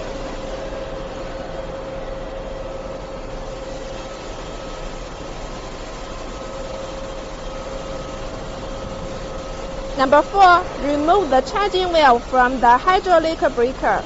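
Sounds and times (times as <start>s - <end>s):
background hum and hiss: 0.0s - 14.0s
constant mid-pitched tone: 0.0s - 14.0s.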